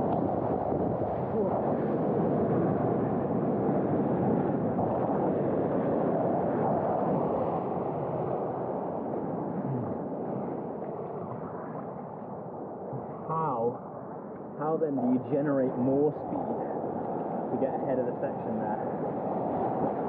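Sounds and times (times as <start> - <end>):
rushing surf water: 0.0 - 20.0
wind buffeting microphone: 0.0 - 20.0.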